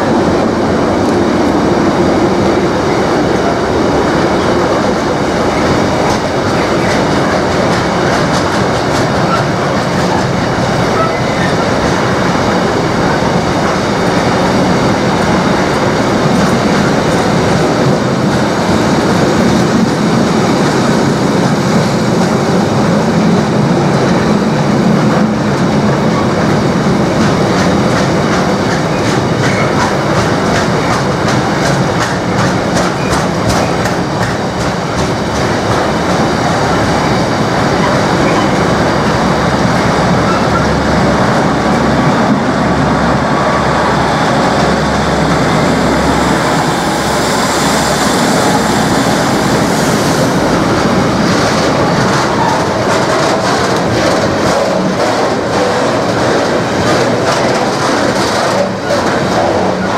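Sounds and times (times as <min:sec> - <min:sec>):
freight train rumbling past: 0:00.0 - 0:59.9
wheels clacking over rail joints: 0:04.3 - 0:22.6, 0:25.1 - 0:59.9.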